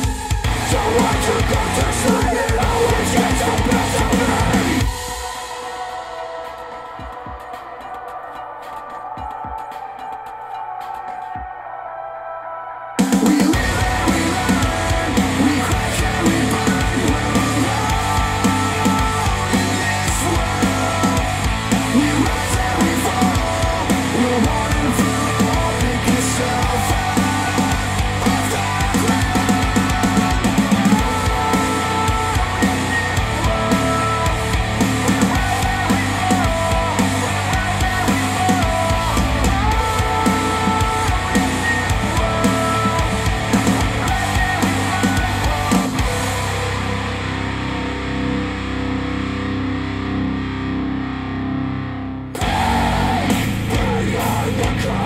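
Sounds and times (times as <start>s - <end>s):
rock guitar riff: 0.0s - 6.3s, 13.0s - 55.0s.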